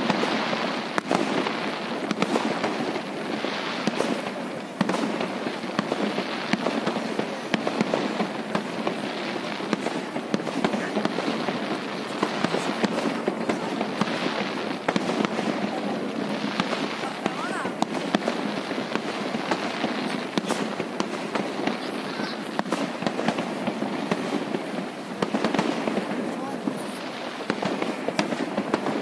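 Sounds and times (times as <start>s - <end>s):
fireworks crackling and popping: 0.0s - 29.0s.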